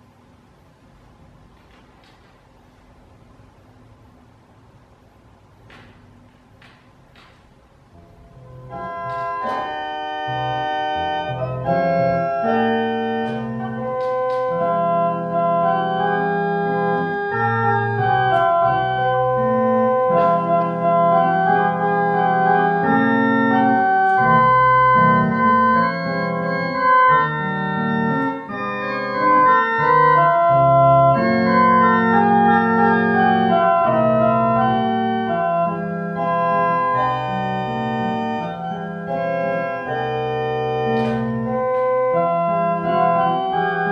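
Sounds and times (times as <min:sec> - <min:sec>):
church organ playing a hymn: 0:07.8 - 0:43.9.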